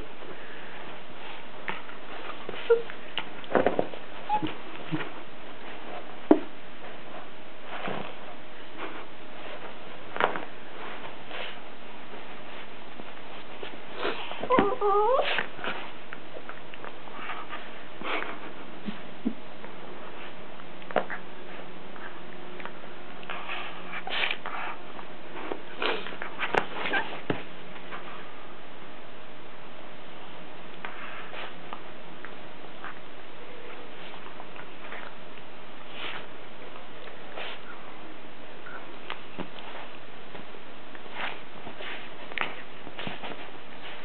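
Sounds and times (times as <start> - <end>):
puppies scuffling in blanket: 0.0 - 28.8, 30.0 - 44.0.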